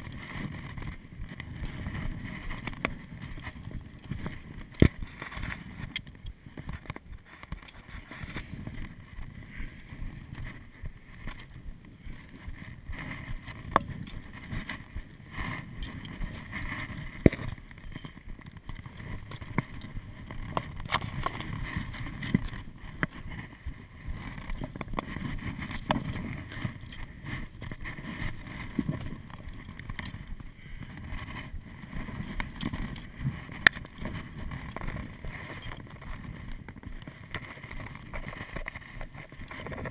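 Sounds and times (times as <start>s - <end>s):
boots crunching on loose rock: 0.0s - 39.9s
climbing gear clicking: 0.0s - 39.9s
wind rumble on microphone: 0.0s - 39.9s.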